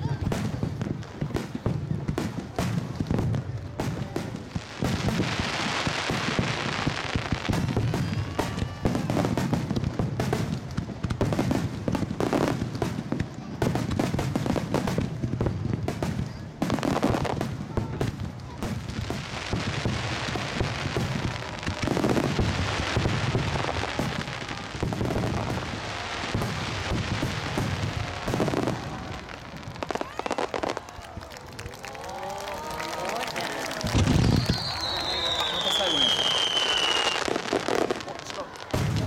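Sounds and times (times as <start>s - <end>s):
fireworks bursts and bangs: 0.0s - 39.0s
fireworks crackling: 0.0s - 39.0s.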